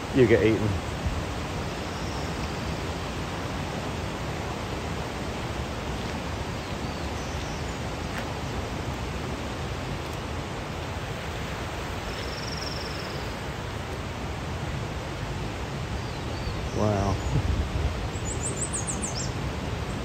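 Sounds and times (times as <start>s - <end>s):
steady rushing outdoor hiss: 0.0s - 20.0s.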